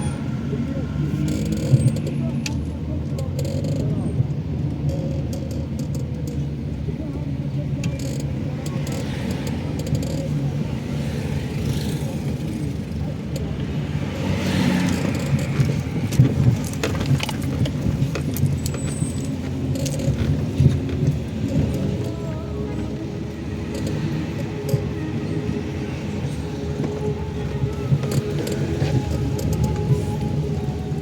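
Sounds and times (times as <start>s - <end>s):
car engine rumble: 0.0s - 31.0s.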